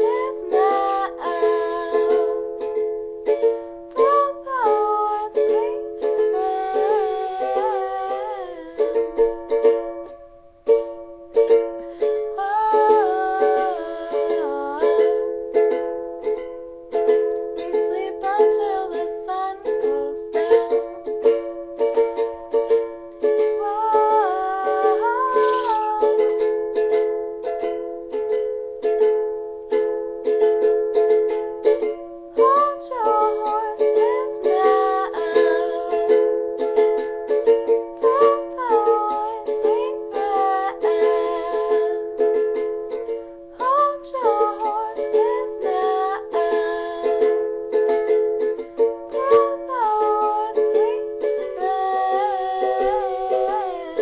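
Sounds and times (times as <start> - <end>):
person singing: 0.0 - 2.8, 4.0 - 9.7, 11.4 - 15.7, 17.2 - 27.6, 31.6 - 54.0
ukulele strumming: 0.0 - 54.0.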